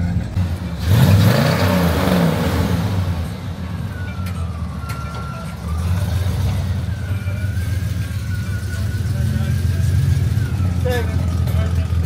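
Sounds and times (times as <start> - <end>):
car engine accelerating: 0.0 - 12.0
low engine rumble: 0.0 - 12.0.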